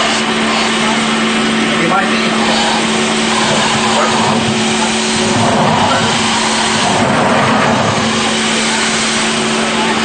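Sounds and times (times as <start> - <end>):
geyser jetting water: 0.0 - 10.0
low hum: 0.0 - 10.0.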